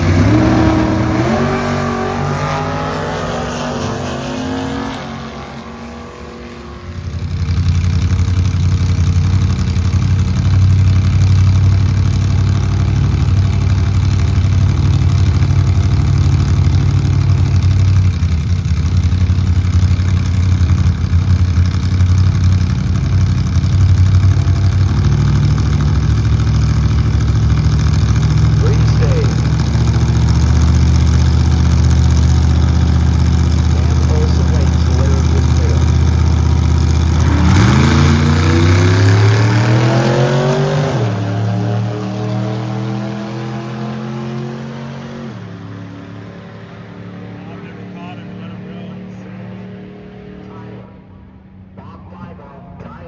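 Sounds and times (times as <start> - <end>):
car engine pitch falling: 0.0 - 45.0
engine running low and steady: 0.0 - 53.0.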